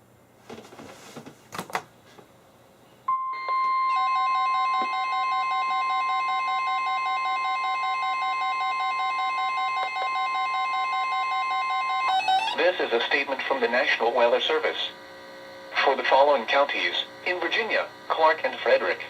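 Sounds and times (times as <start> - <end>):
steady high alarm tone: 3.1 - 18.7.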